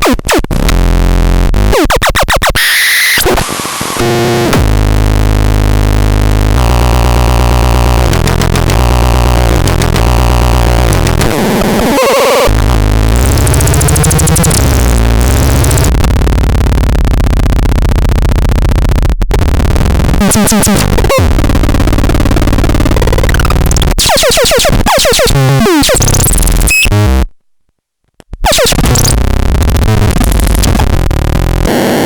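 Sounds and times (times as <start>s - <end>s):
electronic synthesizer: 1.1s - 27.2s, 28.4s - 32.0s.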